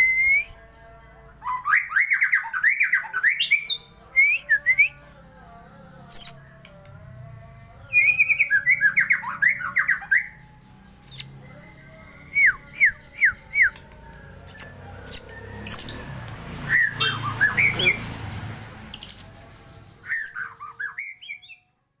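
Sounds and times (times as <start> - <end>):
songbird singing: 0.0 - 21.8.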